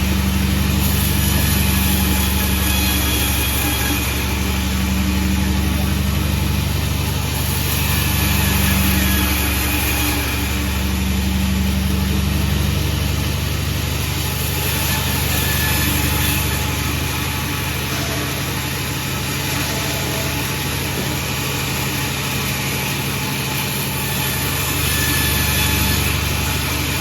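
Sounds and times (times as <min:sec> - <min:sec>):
sawmill machinery humming: 0:00.0 - 0:27.0.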